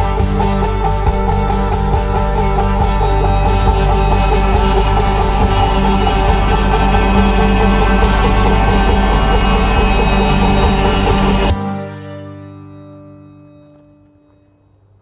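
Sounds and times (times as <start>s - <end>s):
background music repeated notes: 0.0s - 13.6s.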